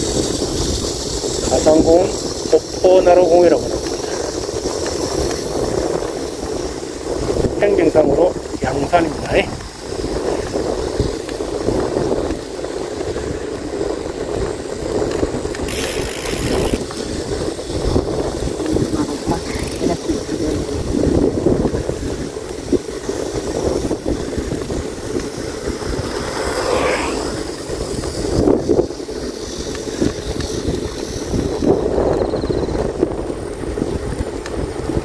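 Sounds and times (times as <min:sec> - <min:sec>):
bicycle tyre noise: 0:00.0 - 0:35.0
wind rumbling on microphone: 0:00.0 - 0:35.0.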